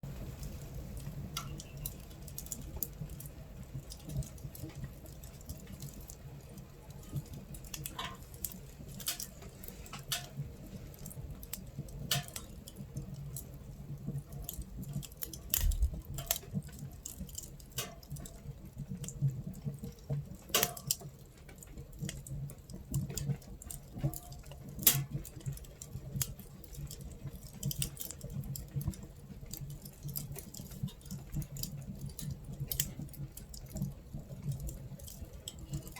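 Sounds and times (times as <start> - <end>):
rain pattering on tent: 0.0 - 35.9
wood fire crackling in stove: 0.0 - 35.9.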